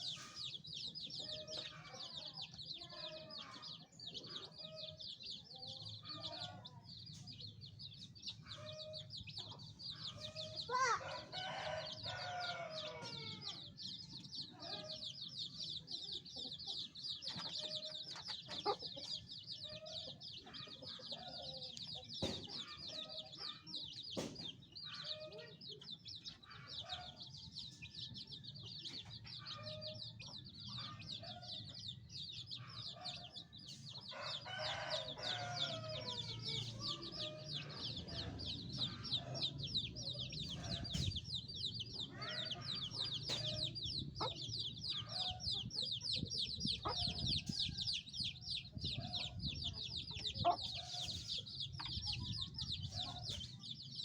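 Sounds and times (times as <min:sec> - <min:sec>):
chicken clucking: 0:00.0 - 0:54.0
chicks peeping: 0:00.0 - 0:54.0.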